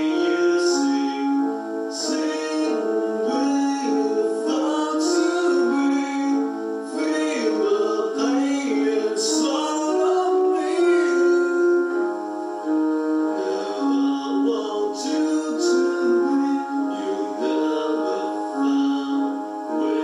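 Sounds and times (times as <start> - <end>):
electronic keyboard chords: 0.0 - 20.0
person singing: 0.0 - 20.0.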